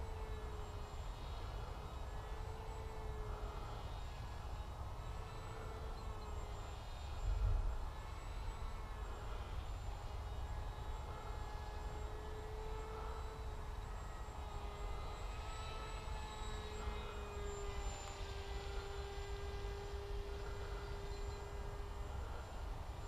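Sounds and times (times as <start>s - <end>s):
model plane motor whine: 0.0s - 23.0s.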